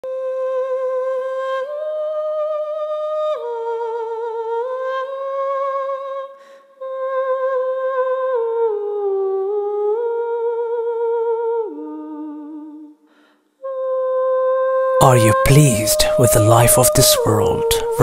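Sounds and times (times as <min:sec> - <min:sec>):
person humming a slow melody: 0:00.0 - 0:13.0, 0:13.6 - 0:18.0.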